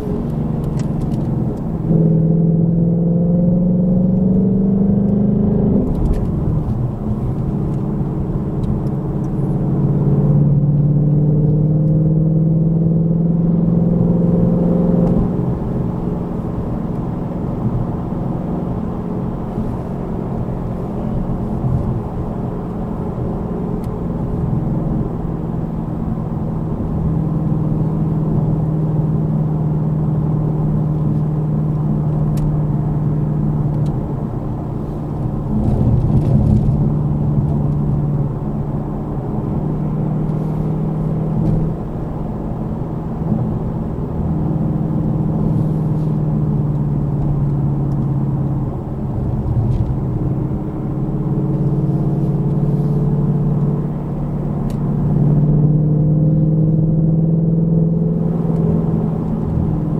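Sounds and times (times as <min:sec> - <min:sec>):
car engine and tyre hum: 0:00.0 - 0:59.9.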